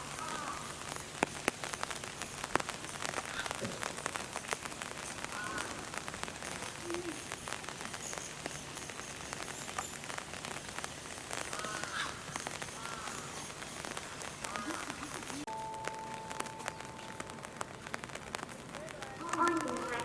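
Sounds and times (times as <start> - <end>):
rain drops ticking: 0.0 - 20.0.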